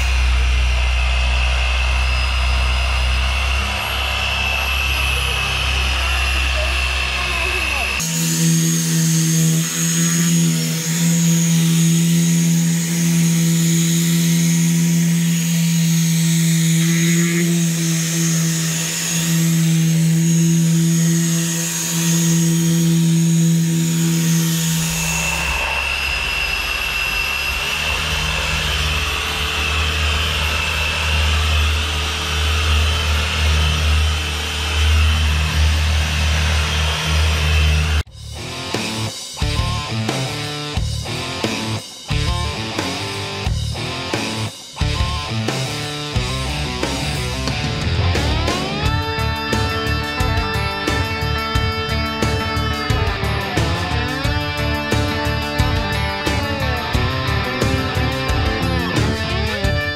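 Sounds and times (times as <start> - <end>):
rotary polisher motor whine: 0.0 - 38.1, 45.8 - 59.9.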